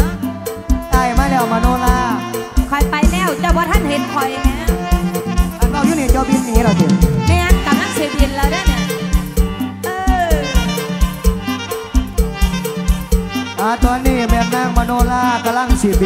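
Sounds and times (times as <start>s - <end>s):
sliding lead melody: 0.0s - 16.0s
steady kick-drum beat: 0.0s - 16.0s.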